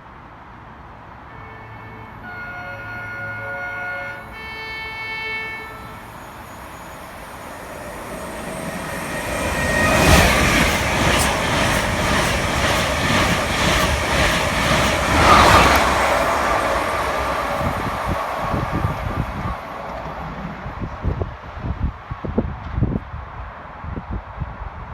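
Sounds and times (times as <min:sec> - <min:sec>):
train rumbling past: 0:01.3 - 0:23.4.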